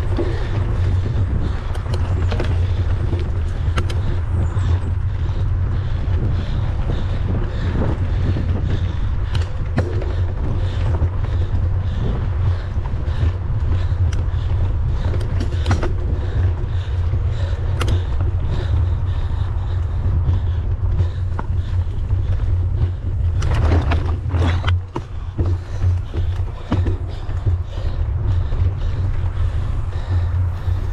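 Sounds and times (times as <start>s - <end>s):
bike clicks and rattles: 0.0s - 30.9s
wind rumbling on microphone: 0.0s - 30.9s.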